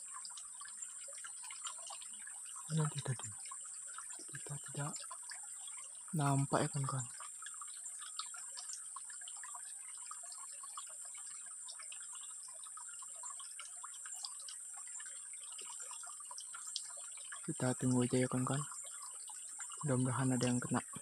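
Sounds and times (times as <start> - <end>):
small ticks and chirps: 0.0 - 21.0.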